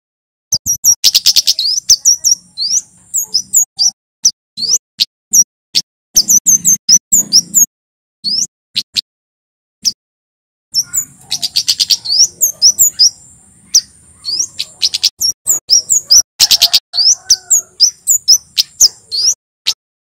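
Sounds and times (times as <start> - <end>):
bird singing high chirps: 0.5 - 5.5, 6.2 - 9.0, 10.7 - 19.8.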